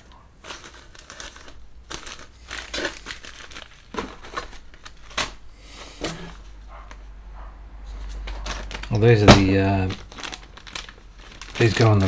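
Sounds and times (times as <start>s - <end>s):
plastic bags crinkling: 0.0s - 6.9s, 8.0s - 12.0s.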